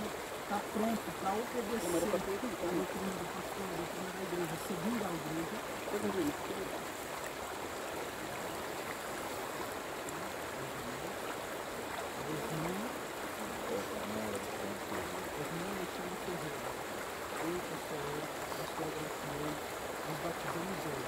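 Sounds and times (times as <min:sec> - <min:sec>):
faint murmured voices: 0:00.0 - 0:06.9, 0:10.1 - 0:11.3, 0:12.1 - 0:21.0
river water rushing: 0:00.0 - 0:21.0.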